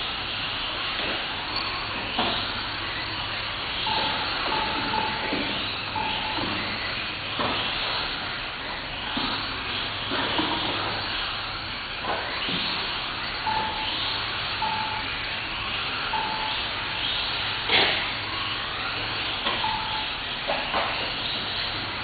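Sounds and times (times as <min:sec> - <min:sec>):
rc car motors whining: 0:00.0 - 0:22.0.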